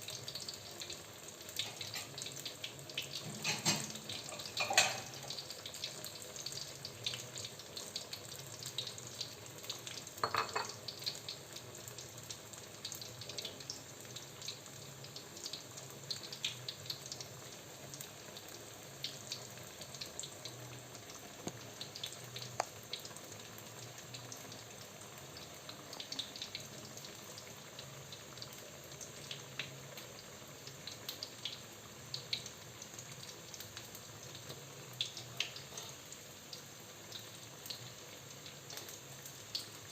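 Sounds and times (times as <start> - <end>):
food frying in hot oil: 0.0 - 39.9.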